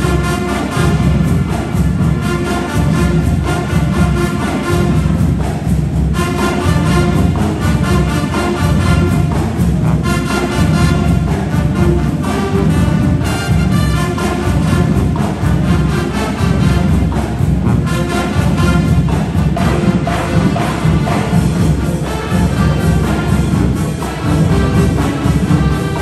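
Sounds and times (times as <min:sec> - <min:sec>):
brass section holding chords: 0:00.0 - 0:26.0.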